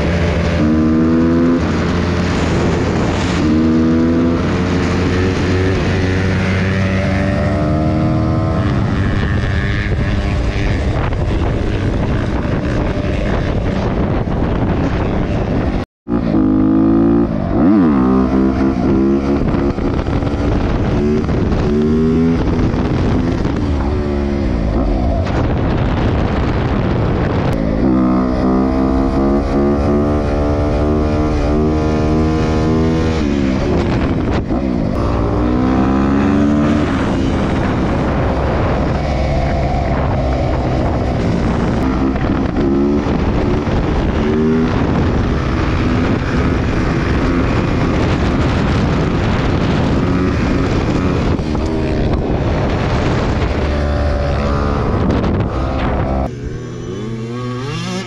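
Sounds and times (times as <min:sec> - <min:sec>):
dirt bike engine revving: 0:00.0 - 0:13.9, 0:16.1 - 0:25.4, 0:27.5 - 0:58.0.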